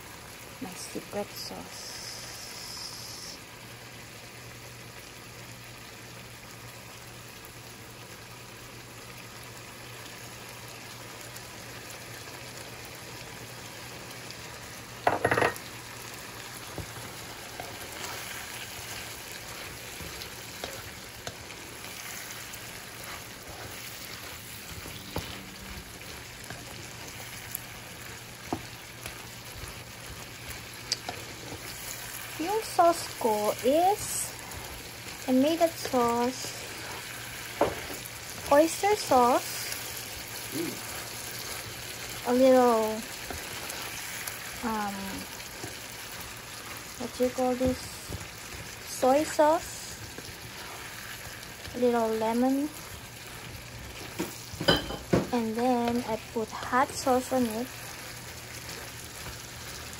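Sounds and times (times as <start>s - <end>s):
shrimp sizzling in a frying pan: 0.0s - 59.9s.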